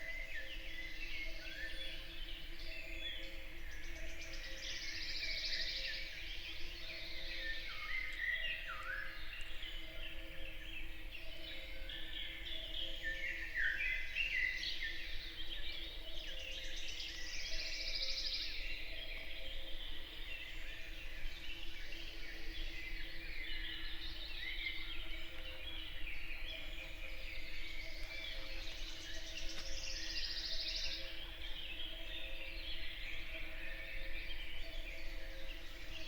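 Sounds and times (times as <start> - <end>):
songbirds singing: 0.0 - 36.0.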